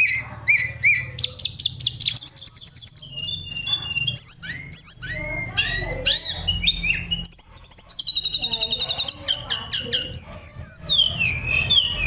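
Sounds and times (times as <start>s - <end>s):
songbird singing varied song: 0.0s - 12.0s.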